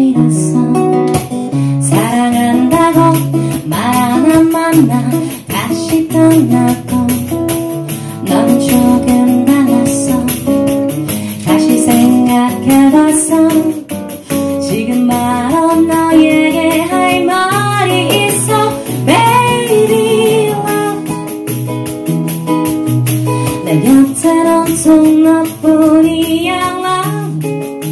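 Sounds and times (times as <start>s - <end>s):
woman singing wordless melody: 0.0s - 21.4s, 23.6s - 27.7s
bass line: 0.0s - 27.7s
plucked strings: 0.0s - 27.9s.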